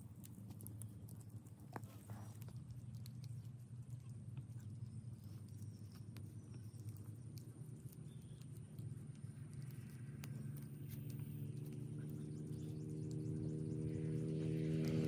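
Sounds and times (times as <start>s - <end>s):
eggshells clicking and tapping: 0.0s - 13.4s
low outdoor hum: 0.0s - 15.0s.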